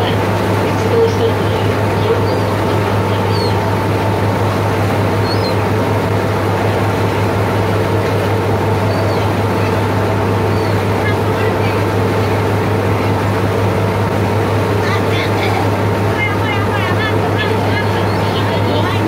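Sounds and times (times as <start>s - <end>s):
boat engine droning: 0.0s - 19.0s
gulls crying: 0.0s - 19.0s.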